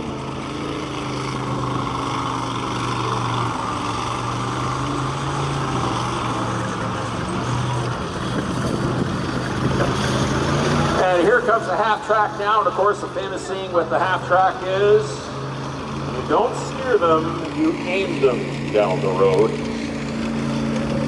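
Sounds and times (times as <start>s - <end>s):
tank engine running: 0.0s - 21.0s.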